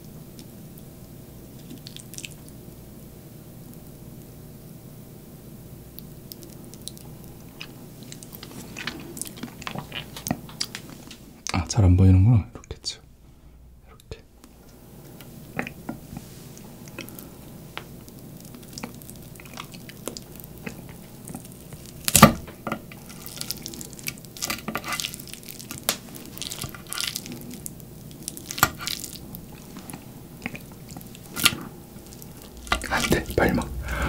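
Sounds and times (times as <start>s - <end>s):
soft squishy food sounds: 0.0s - 4.3s, 5.9s - 11.6s, 14.0s - 34.0s.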